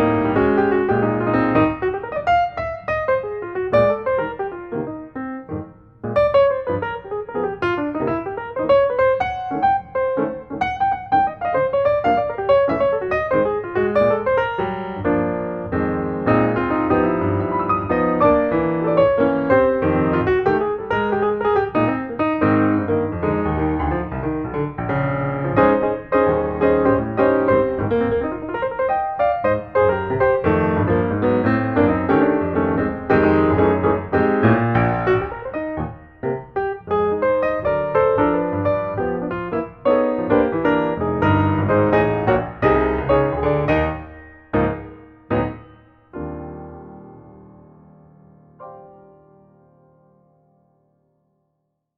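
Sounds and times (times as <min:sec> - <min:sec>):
piano music: 0:00.0 - 0:51.4.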